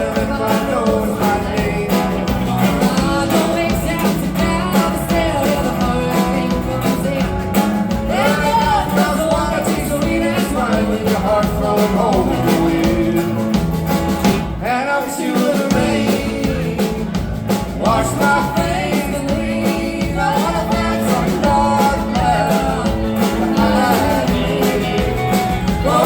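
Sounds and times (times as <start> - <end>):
bending lead guitar line: 0.0 - 26.0
live rock band playing: 0.0 - 26.0.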